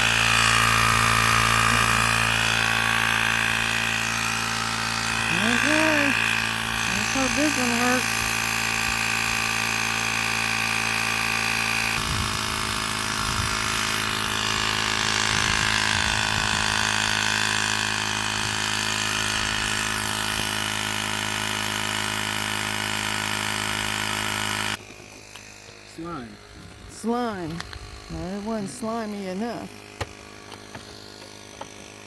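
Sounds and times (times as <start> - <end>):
tire inflator compressor running: 0.0 - 32.0.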